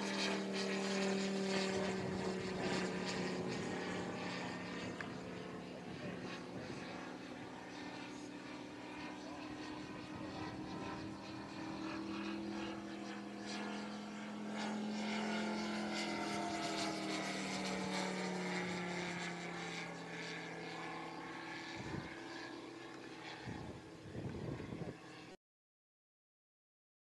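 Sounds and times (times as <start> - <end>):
model plane engine drone: 0.0 - 25.4.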